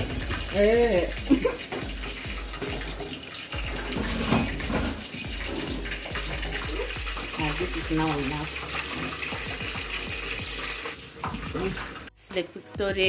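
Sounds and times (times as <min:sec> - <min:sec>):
stick scraping dough in metal pot: 0:01.6 - 0:12.2.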